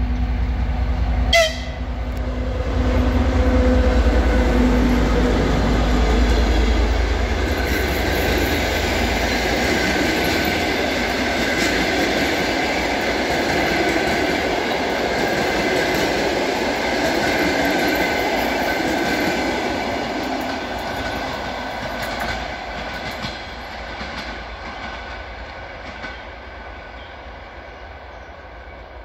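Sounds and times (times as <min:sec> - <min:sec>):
train rumbling past on rails: 0:00.0 - 0:29.0.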